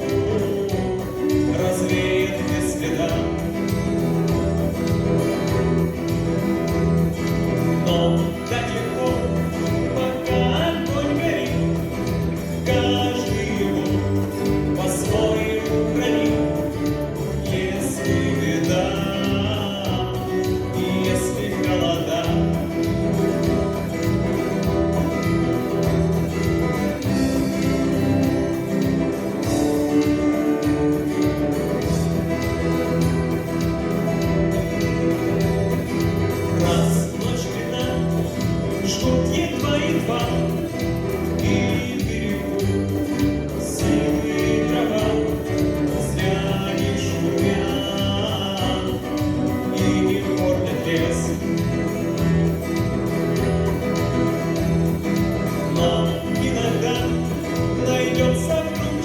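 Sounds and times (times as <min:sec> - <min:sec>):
song with singing: 0:00.0 - 0:59.0.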